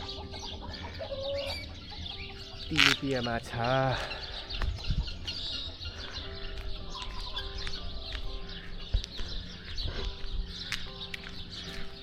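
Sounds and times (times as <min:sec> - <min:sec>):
chickens clucking: 0:00.0 - 0:12.0
small birds chirping: 0:00.0 - 0:12.0.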